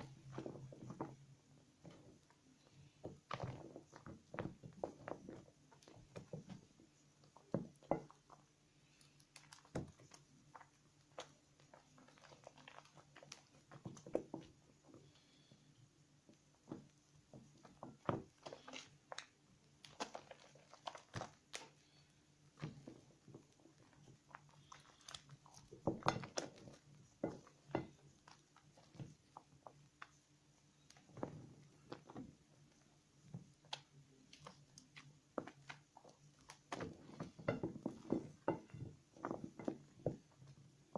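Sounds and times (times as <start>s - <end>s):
soft soap squelches and clicks: 0.0s - 37.4s.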